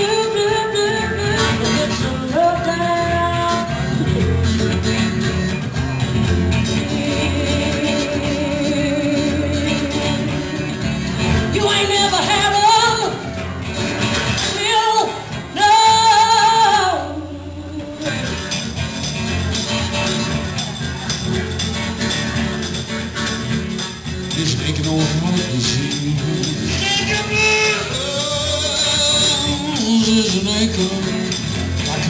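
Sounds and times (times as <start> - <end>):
guitar backing: 0.0 - 32.0.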